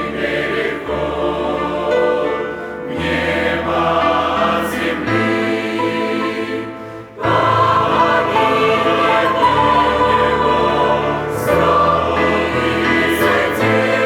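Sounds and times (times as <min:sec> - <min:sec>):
church choir singing a hymn: 0:00.0 - 0:14.0.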